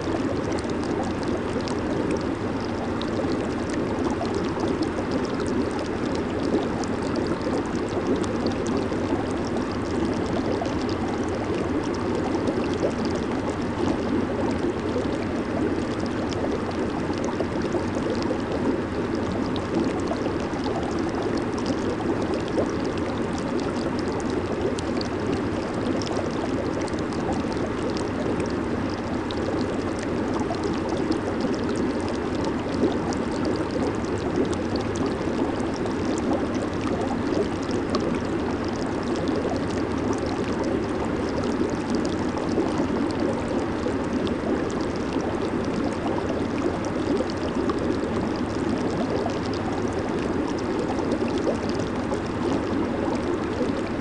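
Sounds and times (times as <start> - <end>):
hot tub jets bubbling: 0.0 - 54.0.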